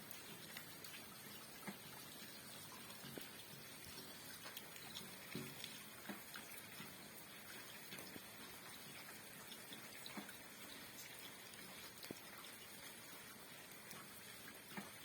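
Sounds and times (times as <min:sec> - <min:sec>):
individual raindrops landing: 0:00.0 - 0:15.0
rain patter: 0:00.0 - 0:15.0.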